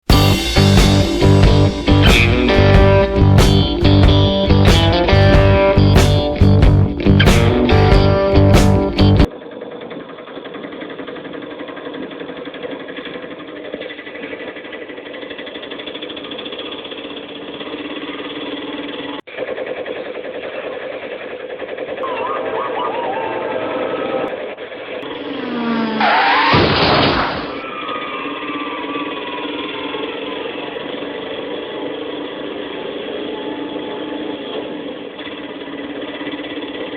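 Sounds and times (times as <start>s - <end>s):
noisy engine burst: 0.0s - 36.9s
small engine running: 0.0s - 36.9s.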